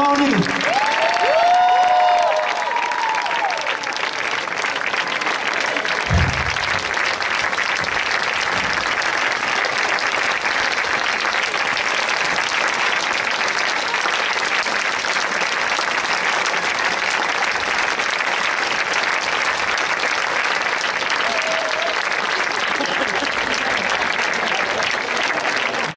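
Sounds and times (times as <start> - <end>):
audience applauding: 0.0 - 25.9.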